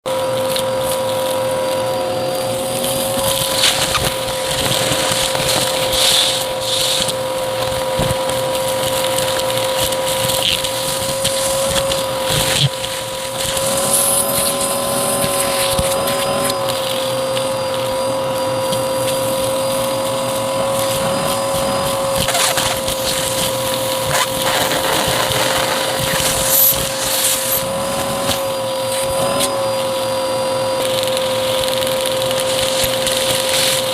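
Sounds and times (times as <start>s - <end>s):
vacuum cleaner motor whine: 0.0s - 33.9s
debris crackling in vacuum: 0.1s - 33.9s.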